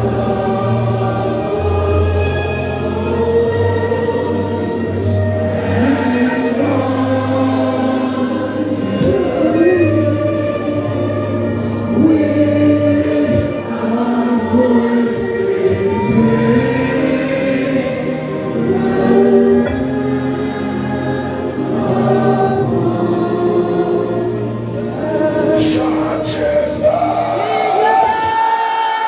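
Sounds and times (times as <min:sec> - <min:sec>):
congregation singing gospel song: 0:00.0 - 0:29.0.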